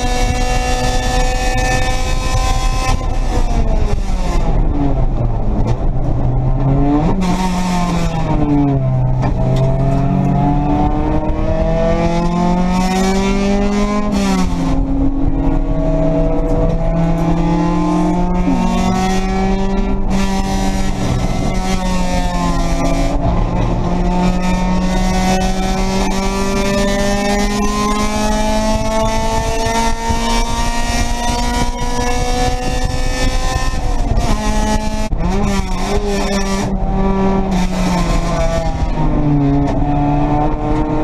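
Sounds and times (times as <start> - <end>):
race car engine revving: 0.0 - 41.0
wind and road noise: 0.0 - 41.0.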